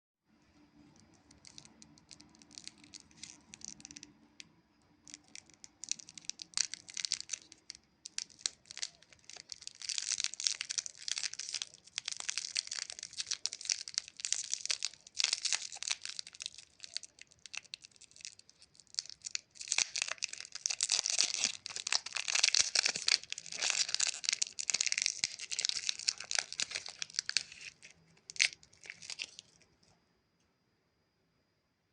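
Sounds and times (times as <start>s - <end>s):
plastic wrapper crinkling: 0.8s - 4.3s, 5.0s - 29.8s.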